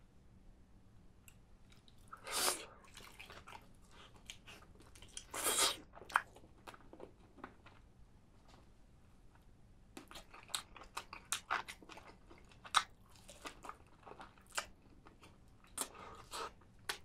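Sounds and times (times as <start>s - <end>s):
chewing with crackly clicks: 1.3s - 2.2s, 2.8s - 8.6s, 9.3s - 17.0s.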